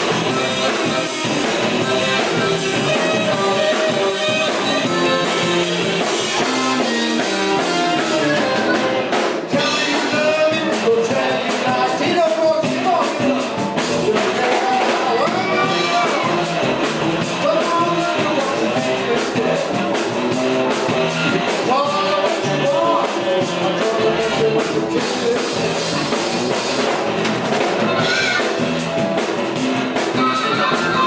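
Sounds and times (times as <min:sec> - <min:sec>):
man singing: 0:00.0 - 0:26.8, 0:29.5 - 0:31.0
drums: 0:00.0 - 0:31.0
electric guitars: 0:00.0 - 0:31.0.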